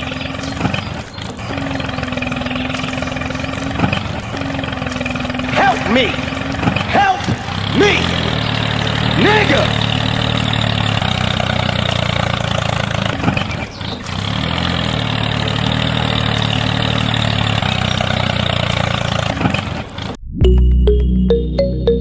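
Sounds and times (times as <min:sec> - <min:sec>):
tractor engine idling: 0:00.0 - 0:20.2.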